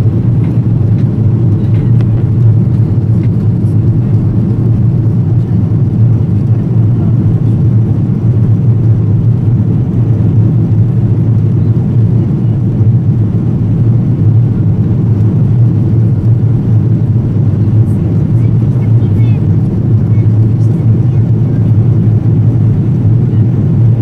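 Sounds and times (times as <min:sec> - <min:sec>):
jet engines rumbling: 0:00.0 - 0:24.0
rushing air in cabin: 0:00.0 - 0:24.0.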